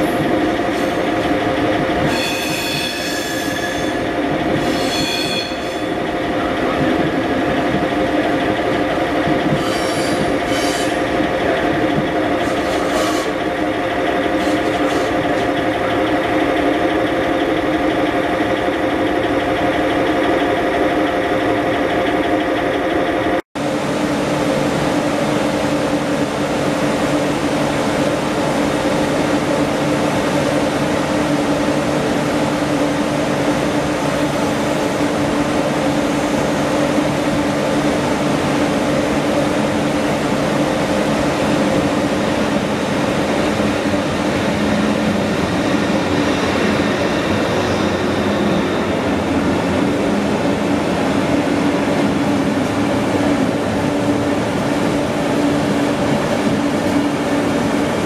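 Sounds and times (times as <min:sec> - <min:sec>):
electric locomotive humming: 0:00.0 - 0:58.0
train coaches rolling past: 0:00.0 - 0:58.0.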